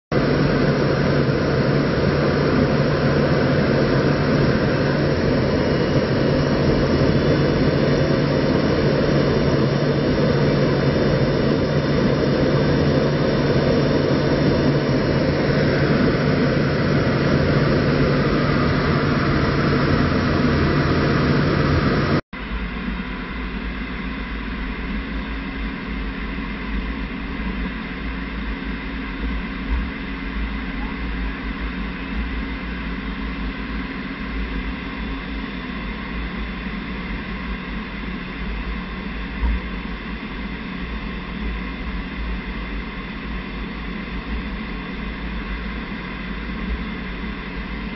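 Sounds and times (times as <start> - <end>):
aircraft engine roar: 0.1 - 47.9.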